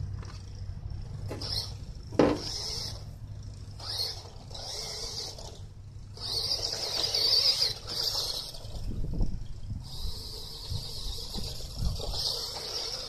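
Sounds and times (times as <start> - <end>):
toy car electric motor whining: 0.0 - 13.0.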